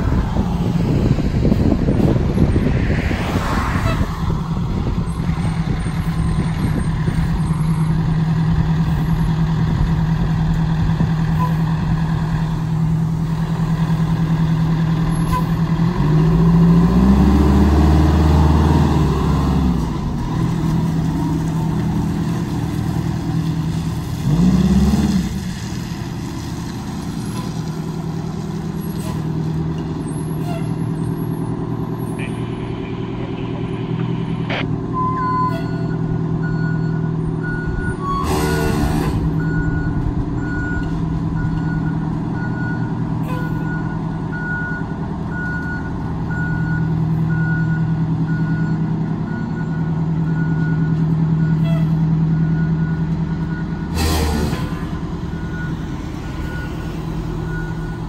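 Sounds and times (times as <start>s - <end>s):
fire engine revving: 0.0s - 58.0s.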